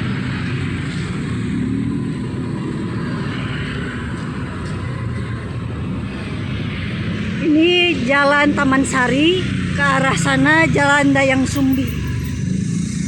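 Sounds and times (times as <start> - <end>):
cars passing: 0.0 - 13.0
motorbikes passing: 0.0 - 13.0.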